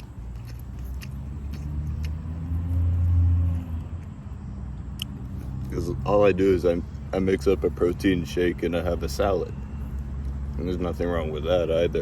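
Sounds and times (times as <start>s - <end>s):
car engine rumble passing by: 0.0s - 12.0s.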